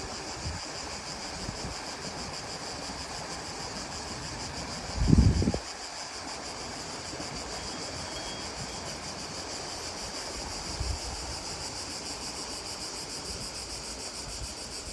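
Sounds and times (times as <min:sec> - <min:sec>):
high insect chorus: 0:00.0 - 0:14.9.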